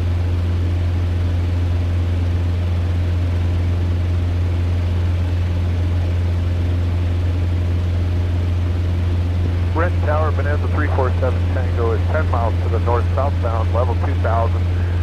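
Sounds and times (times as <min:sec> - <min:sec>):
airplane engine drone in cockpit: 0:00.0 - 0:15.0.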